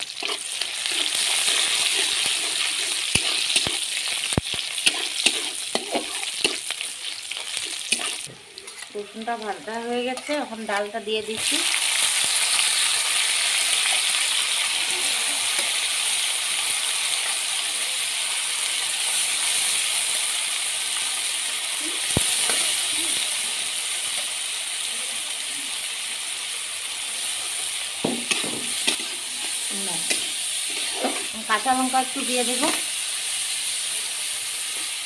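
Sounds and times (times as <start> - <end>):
lentils sizzling in hot oil: 0.0 - 35.0.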